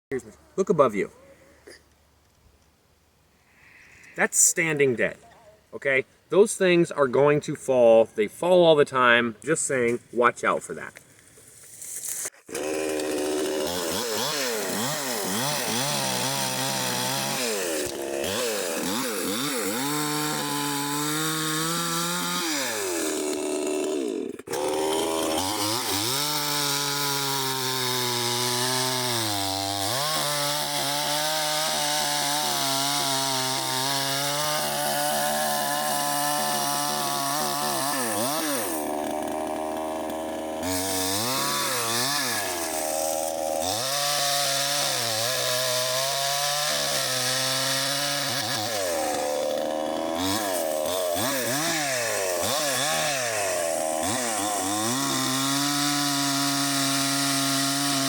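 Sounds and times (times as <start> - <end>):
chainsaw cutting wood: 11.5 - 58.0.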